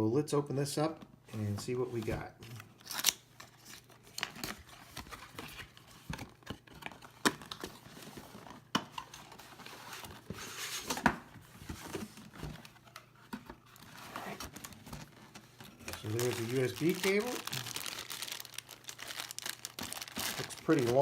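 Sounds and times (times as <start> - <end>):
packaging rustling and crinkling: 1.4 - 21.0.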